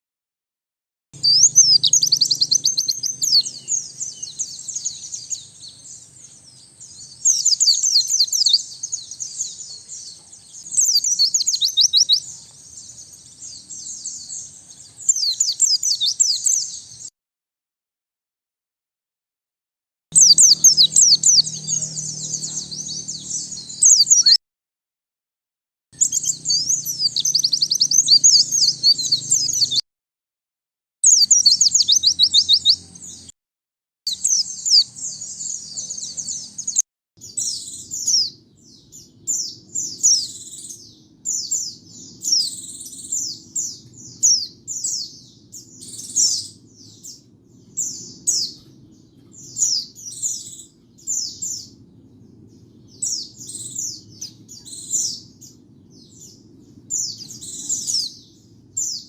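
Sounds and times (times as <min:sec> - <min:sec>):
bird twittering song: 0:01.2 - 0:17.1, 0:20.2 - 0:24.4, 0:26.0 - 0:29.8, 0:31.0 - 0:33.3, 0:34.1 - 0:59.0
high bird chirping: 0:01.2 - 0:17.1, 0:20.2 - 0:24.4, 0:26.0 - 0:29.8, 0:31.0 - 0:33.3, 0:34.1 - 0:59.0.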